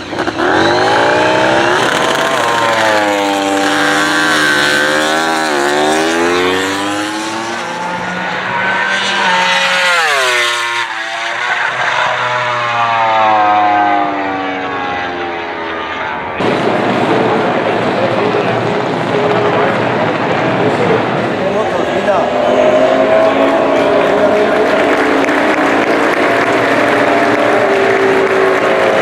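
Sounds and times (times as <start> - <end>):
racing motorcycle engines passing: 0.0 - 29.0.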